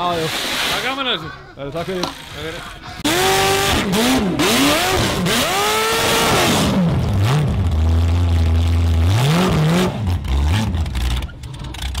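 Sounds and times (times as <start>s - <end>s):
buggy engine revving: 2.1s - 12.0s.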